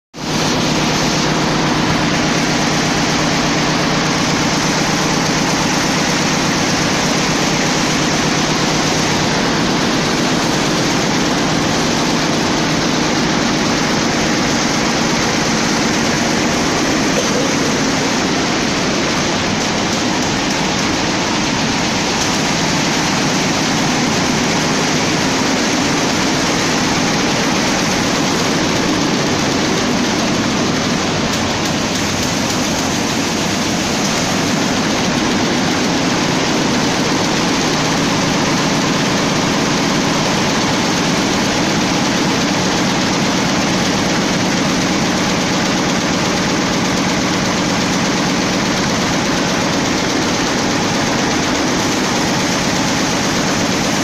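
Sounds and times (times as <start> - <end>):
embroidery machine clatter: 0.2 - 54.0.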